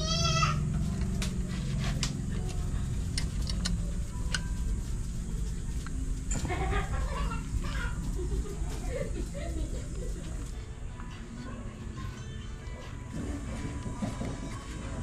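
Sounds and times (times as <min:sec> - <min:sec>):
voices: 0:00.0 - 0:15.0.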